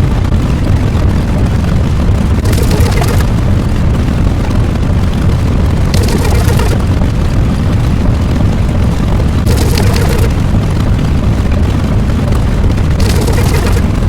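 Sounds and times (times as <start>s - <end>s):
loud low rumble: 0.0s - 14.0s.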